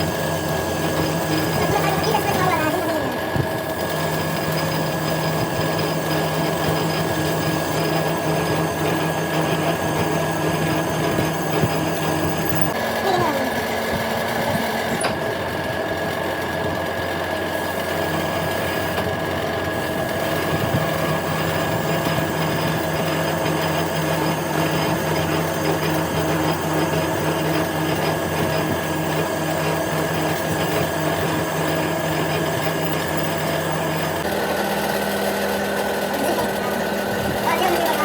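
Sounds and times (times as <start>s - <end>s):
power tool running steadily: 0.0s - 38.0s.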